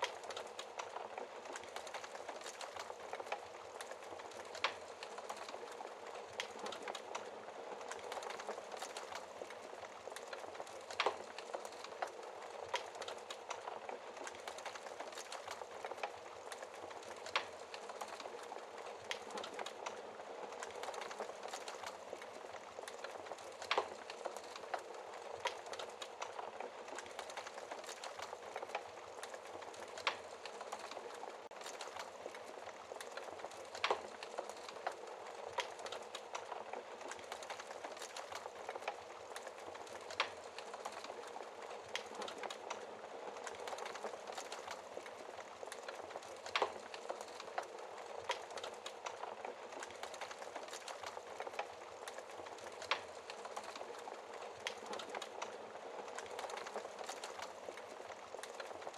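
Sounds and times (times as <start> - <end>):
burning wood popping: 0.0 - 58.9
wood fire crackling: 0.0 - 58.9.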